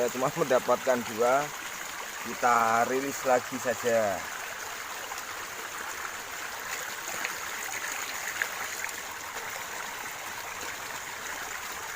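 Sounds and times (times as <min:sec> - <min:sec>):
river flowing: 0:00.0 - 0:11.9.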